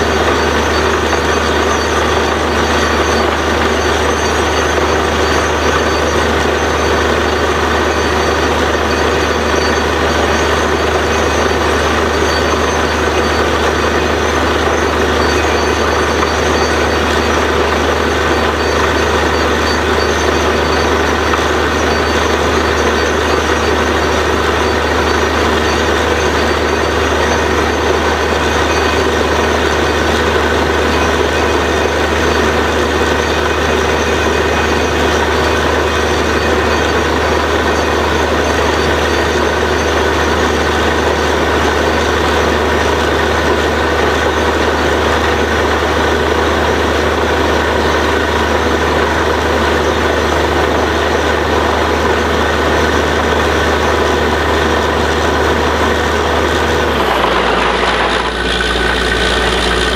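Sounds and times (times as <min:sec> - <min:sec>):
drilling rig engine drone: 0:00.0 - 0:59.9.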